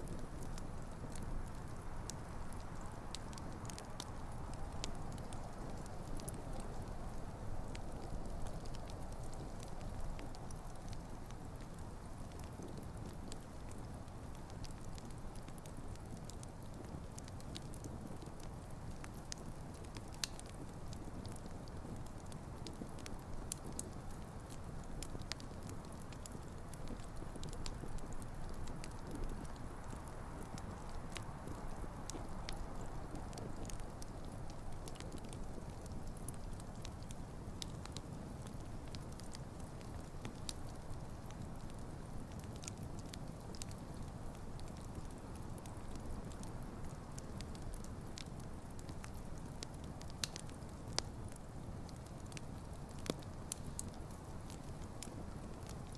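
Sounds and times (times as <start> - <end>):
campfire crackling and popping: 0.0 - 55.9
low rumble of flames: 0.0 - 55.9.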